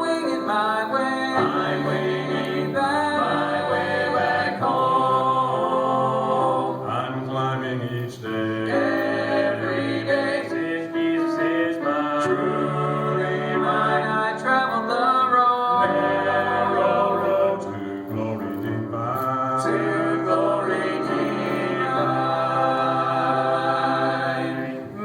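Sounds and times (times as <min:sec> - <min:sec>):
vocal group singing in harmony: 0:00.0 - 0:25.0.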